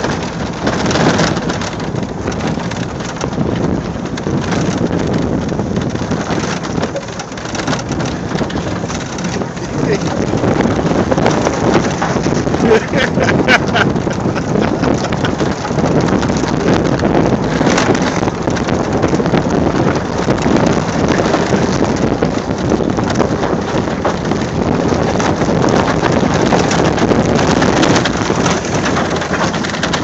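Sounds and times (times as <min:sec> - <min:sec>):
continuous rumbling noise: 0:00.0 - 0:30.0
wind buffeting microphone: 0:00.0 - 0:30.0.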